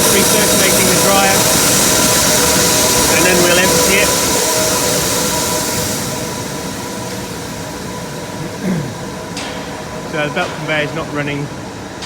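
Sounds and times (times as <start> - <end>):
machinery hum: 0.0 - 12.0
strong hiss: 0.0 - 12.0.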